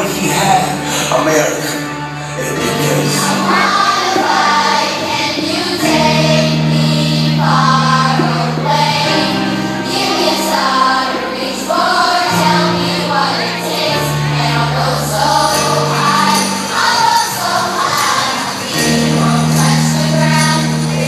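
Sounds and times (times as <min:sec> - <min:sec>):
music with singing: 0:00.0 - 0:21.0.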